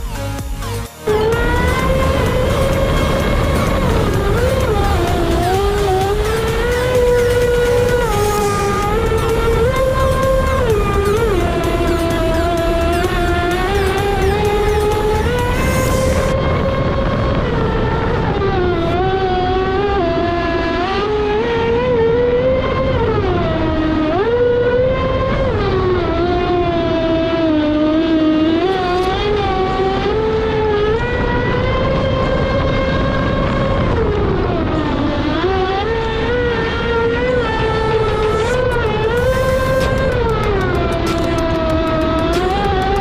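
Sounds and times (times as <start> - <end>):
electric motor whining: 0.0 - 27.4, 28.2 - 43.0.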